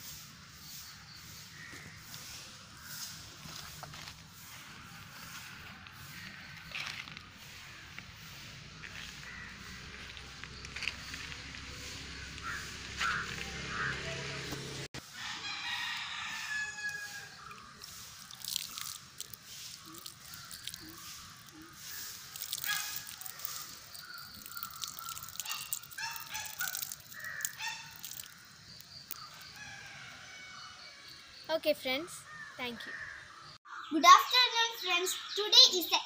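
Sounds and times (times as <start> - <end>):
birds calling: 0.7 - 14.9, 15.7 - 36.0.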